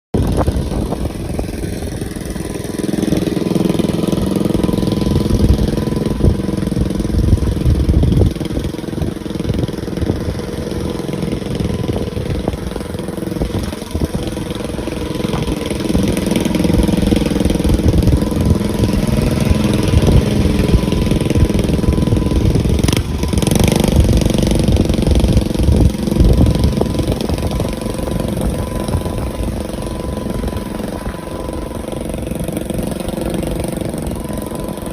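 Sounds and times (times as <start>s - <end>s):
dirt bike engine running: 0.1s - 34.9s.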